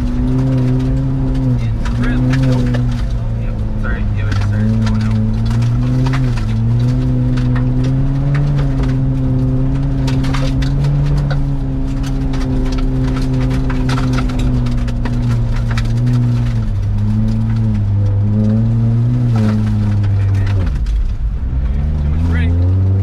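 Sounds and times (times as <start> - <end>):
car engine pulling: 0.0 - 23.0.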